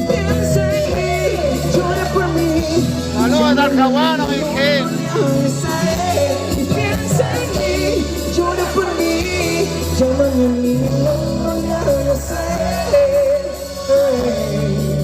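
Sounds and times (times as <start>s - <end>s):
person singing: 0.0s - 15.0s
repeating bass line: 0.0s - 15.0s.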